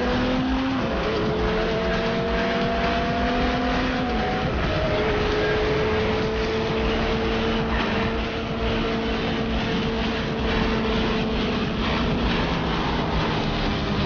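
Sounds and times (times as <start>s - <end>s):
sport bike engine at high speed: 0.0s - 14.0s.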